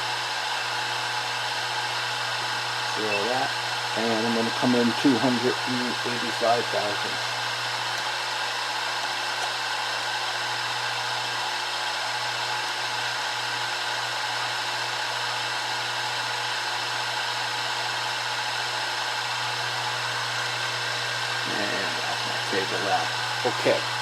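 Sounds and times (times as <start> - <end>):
milling machine running: 0.0 - 24.0.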